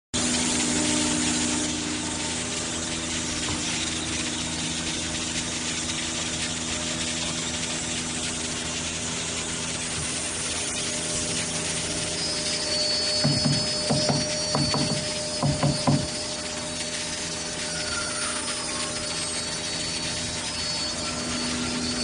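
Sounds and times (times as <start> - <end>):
machine humming and hissing: 0.2 - 22.0.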